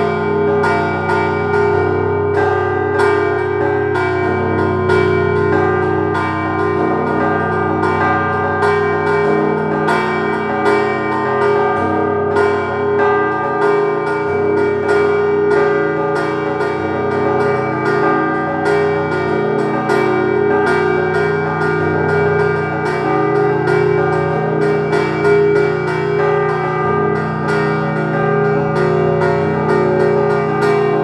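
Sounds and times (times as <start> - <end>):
deep bells ringing: 0.0 - 31.0.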